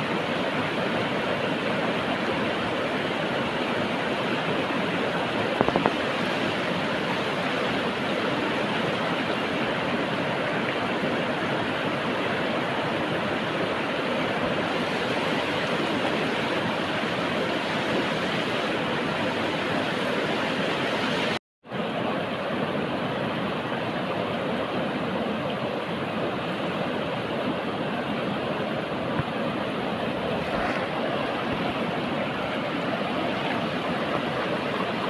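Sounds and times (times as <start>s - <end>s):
water rushing over rocks: 0.0s - 35.0s.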